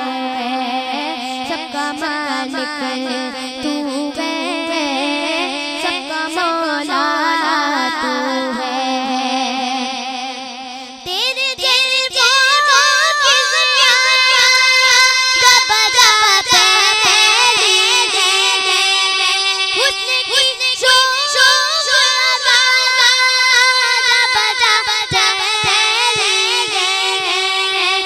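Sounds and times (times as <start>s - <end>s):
girl singing: 0.0s - 28.0s
ornamented vocal melody: 0.0s - 28.0s.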